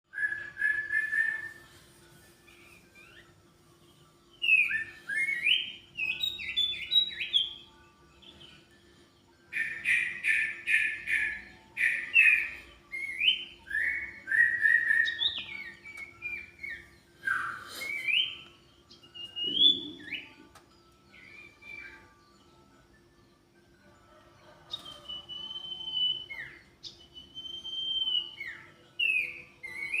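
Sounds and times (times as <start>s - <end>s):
songbird singing whistled notes: 0.1s - 23.3s, 24.0s - 30.0s.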